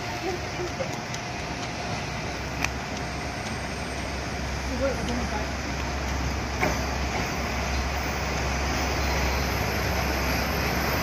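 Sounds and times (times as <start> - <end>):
diesel railcars rumbling: 0.0 - 11.0.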